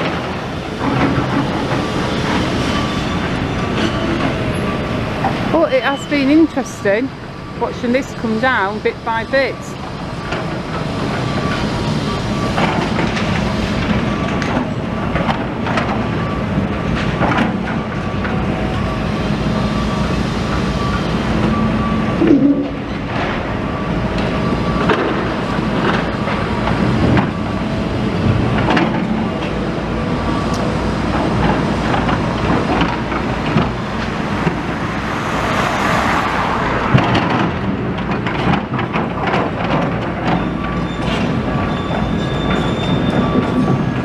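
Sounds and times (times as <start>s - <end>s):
heavy machinery engine rumble: 0.0s - 44.0s.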